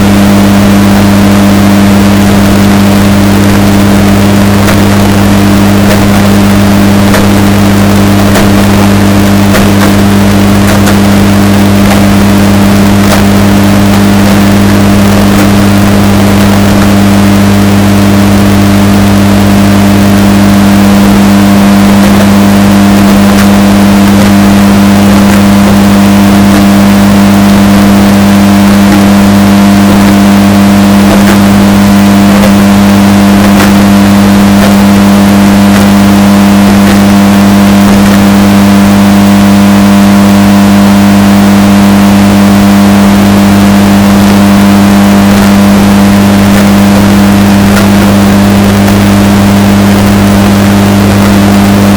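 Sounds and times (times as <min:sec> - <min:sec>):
distorted washing machine hum: 0:00.0 - 0:51.9.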